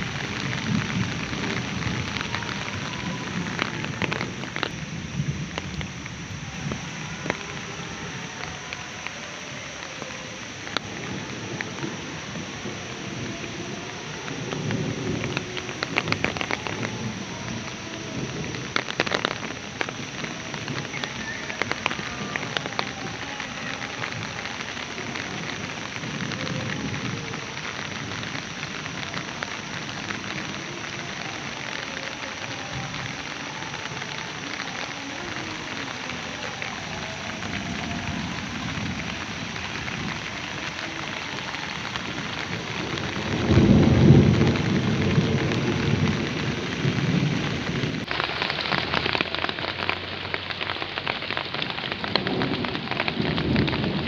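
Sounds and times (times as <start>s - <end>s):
heavy rain pouring: 0.0s - 54.0s
raindrops tapping close by: 0.0s - 54.0s
thunder rumbling: 0.0s - 54.0s.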